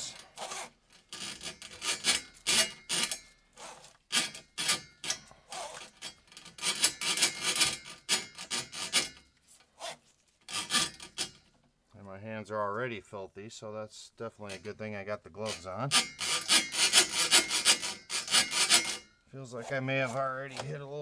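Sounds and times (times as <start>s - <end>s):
drain auger cable scraping metal: 0.0s - 11.6s, 14.4s - 21.0s.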